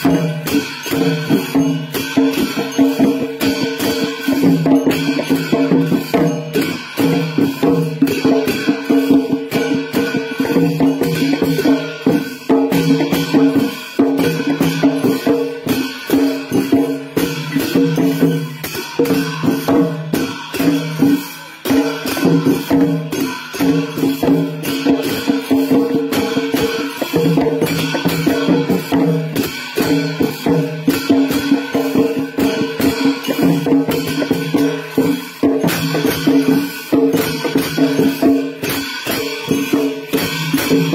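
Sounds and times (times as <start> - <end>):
clashing cymbals: 0.0 - 40.9
fast drum strokes: 0.0 - 40.9.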